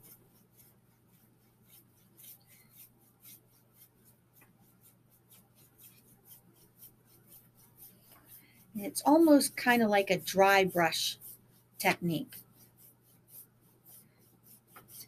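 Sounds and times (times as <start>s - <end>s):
paintbrush scratching on canvas: 0.0s - 15.0s.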